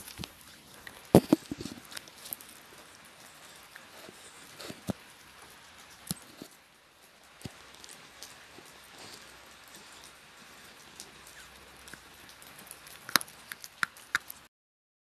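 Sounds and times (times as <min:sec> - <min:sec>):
puppy chewing: 0:00.0 - 0:14.5.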